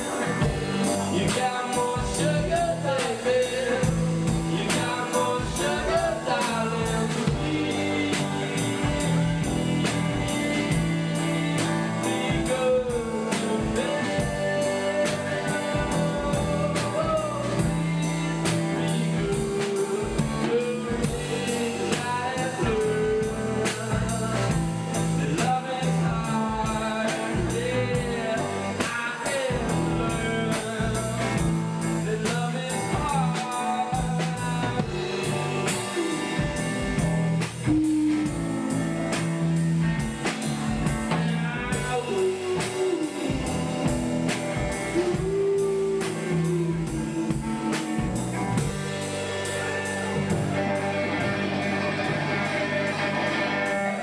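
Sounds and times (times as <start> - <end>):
bass guitar: 0.0 - 54.0
drum kit steady beat: 0.0 - 54.0
electric guitar: 0.0 - 54.0
lead vocal singing: 0.0 - 54.0.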